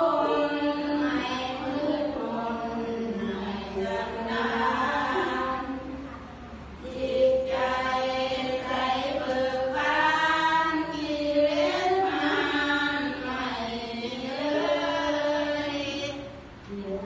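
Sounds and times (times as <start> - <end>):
voices chanting together: 0.0 - 17.0.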